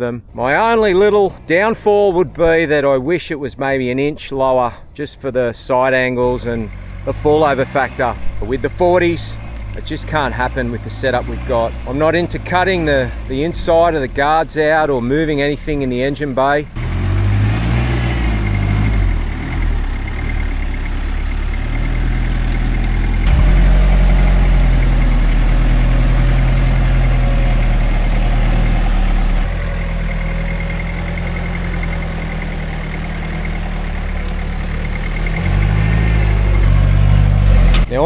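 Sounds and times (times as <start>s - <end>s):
truck engine at low speed: 0.2s - 38.0s.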